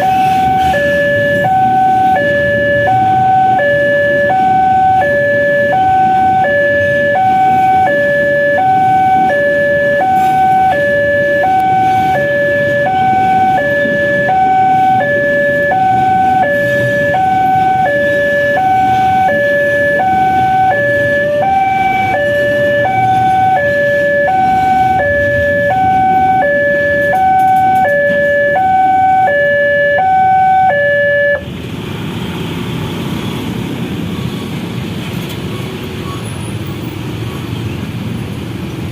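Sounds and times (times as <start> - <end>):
level crossing two-tone alarm: 0.0 - 31.5
road traffic rumble: 0.0 - 38.9.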